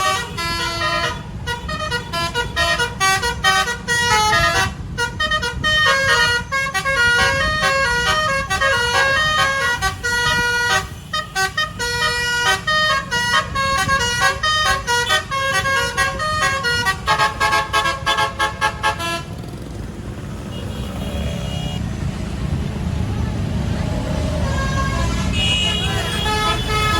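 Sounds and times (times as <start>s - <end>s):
bus musical horn melody: 0.0s - 19.4s, 24.4s - 26.9s
bus engine rumble: 0.0s - 26.9s
road noise: 0.0s - 26.9s.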